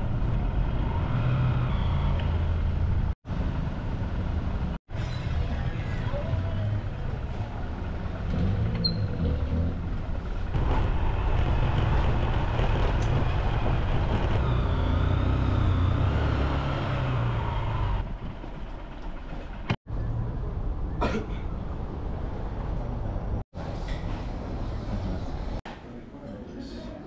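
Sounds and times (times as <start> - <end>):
traffic engines and road noise: 0.0 - 25.6.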